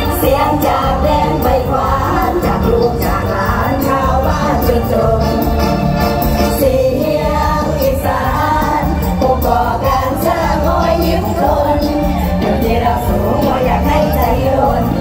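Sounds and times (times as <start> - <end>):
person singing: 0.0 - 5.7, 6.6 - 15.0
band music through loud speakers: 0.0 - 15.0.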